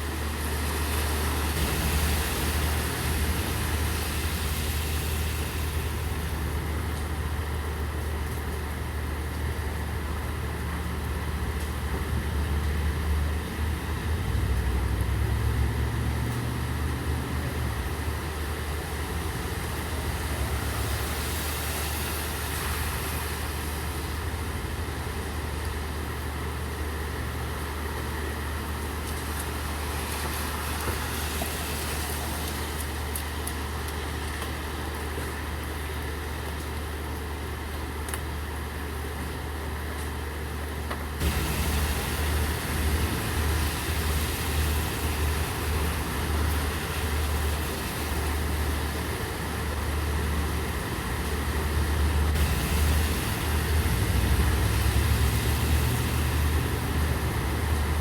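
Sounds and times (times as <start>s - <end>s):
steady rain: 0.0s - 58.0s
vehicle engine humming: 0.0s - 58.0s.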